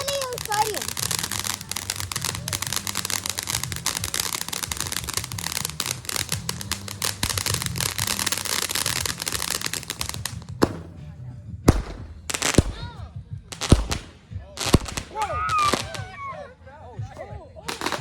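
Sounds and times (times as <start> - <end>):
firework crackling pops: 0.0 - 16.2, 17.7 - 18.0.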